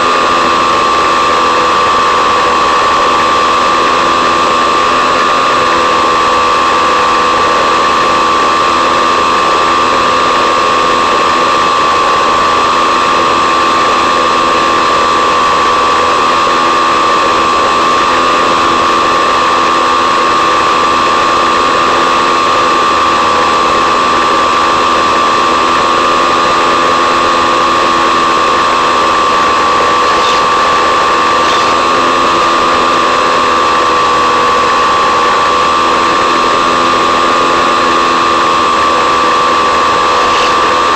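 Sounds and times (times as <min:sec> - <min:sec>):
electric motor propeller whine: 0:00.0 - 0:40.9.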